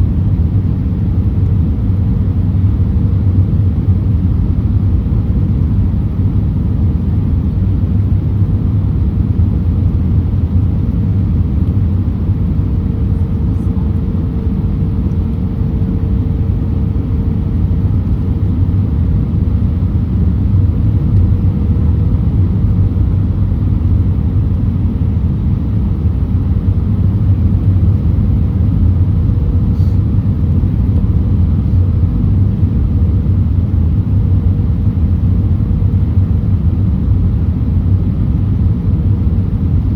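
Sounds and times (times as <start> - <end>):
airplane cabin low rumble: 0.0 - 39.9
faint steady engine tone: 0.0 - 39.9.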